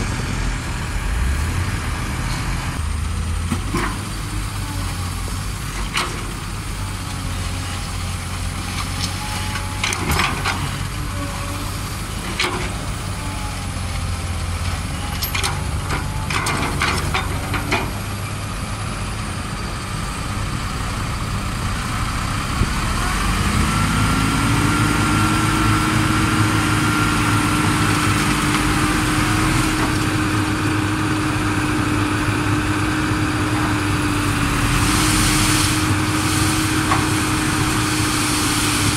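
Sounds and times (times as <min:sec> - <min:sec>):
diesel engines idling: 0:00.0 - 0:38.9.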